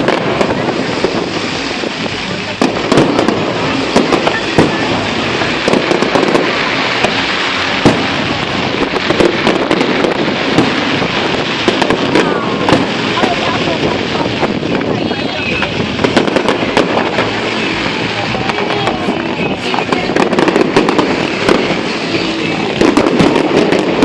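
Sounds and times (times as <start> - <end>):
crackling hiss: 0.0 - 24.0
fireworks bangs and crackles: 0.0 - 24.0.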